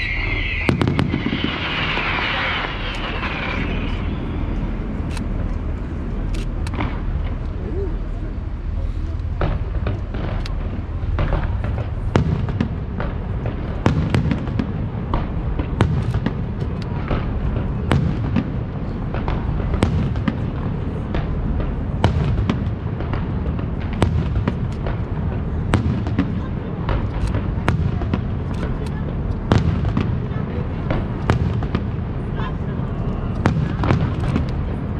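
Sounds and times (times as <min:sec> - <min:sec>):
continuous low rumble: 0:00.0 - 0:34.9
fireworks bangs and cracks: 0:00.0 - 0:34.9.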